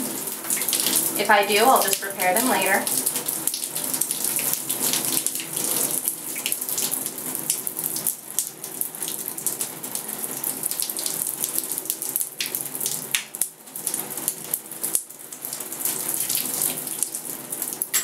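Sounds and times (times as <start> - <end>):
water pouring and splashing: 0.0 - 18.0.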